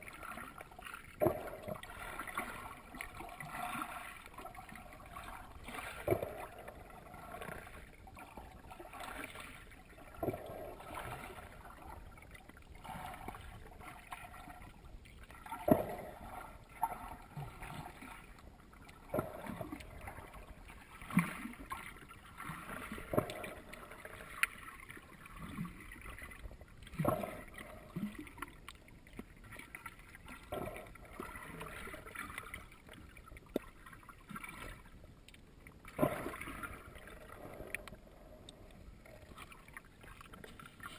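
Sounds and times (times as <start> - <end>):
muffled water sloshing underwater: 0.0 - 40.9.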